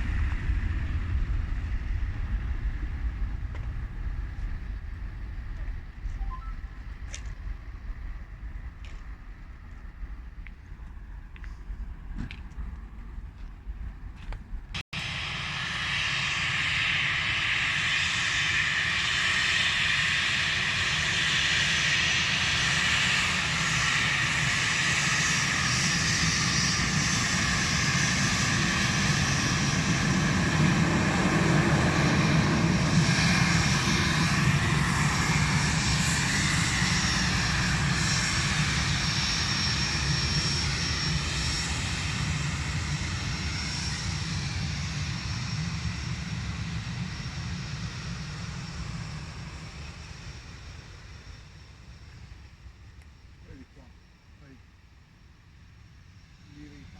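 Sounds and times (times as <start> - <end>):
jet airliner engines passing: 0.0 - 56.9.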